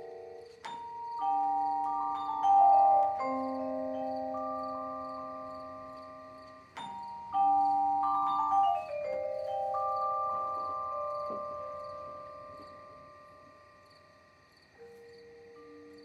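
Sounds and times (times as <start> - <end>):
vibraphone notes: 0.0 - 16.0.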